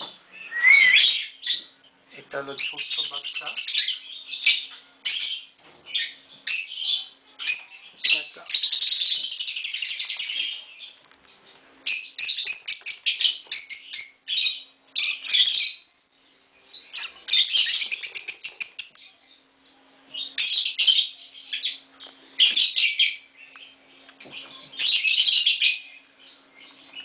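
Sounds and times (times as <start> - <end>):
lovebirds chirping: 0.0 - 27.0.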